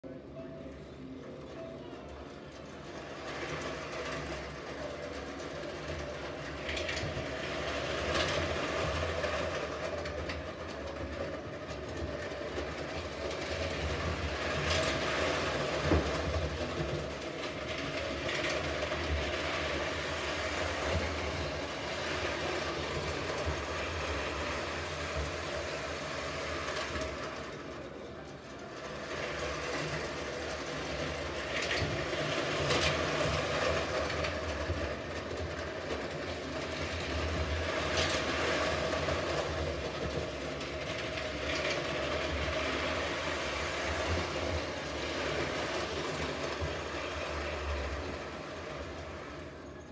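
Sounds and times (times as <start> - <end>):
toy train electric hum: 0.0 - 49.9
wheels rattling on metal rails: 0.6 - 49.9.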